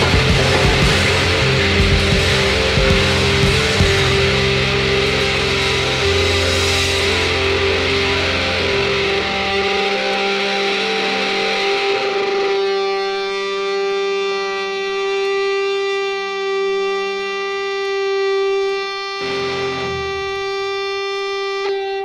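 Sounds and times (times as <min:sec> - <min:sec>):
held guitar note ringing: 0:00.0 - 0:15.8, 0:18.6 - 0:22.0
math rock band: 0:00.0 - 0:22.0.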